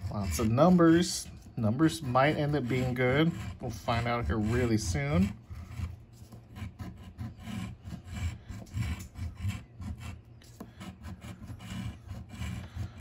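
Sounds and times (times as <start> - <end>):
coin scratching a ticket: 0.0 - 13.0.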